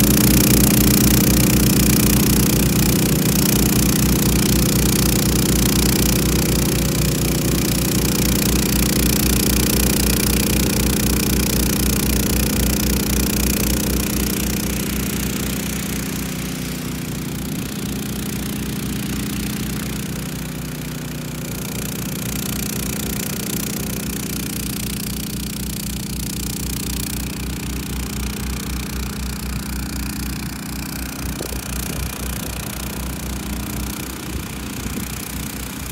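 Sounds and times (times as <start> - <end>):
snow blower engine running: 0.0 - 35.9.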